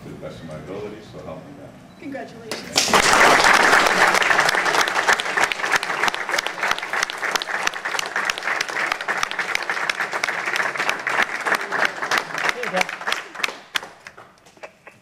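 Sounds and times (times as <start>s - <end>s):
audience applauding: 2.7s - 15.0s.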